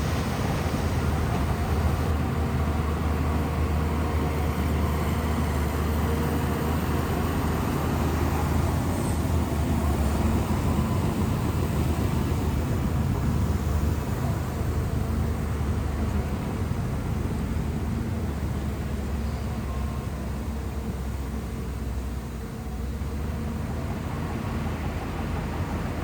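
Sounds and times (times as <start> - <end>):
bulldozer diesel engine drone: 0.0 - 26.0.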